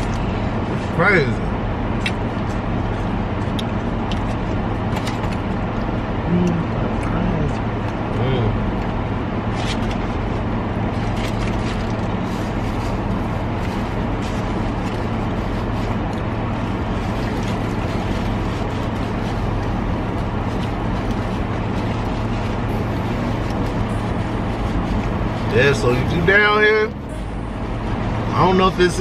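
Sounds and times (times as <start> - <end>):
vehicle idling hum: 0.0 - 29.0.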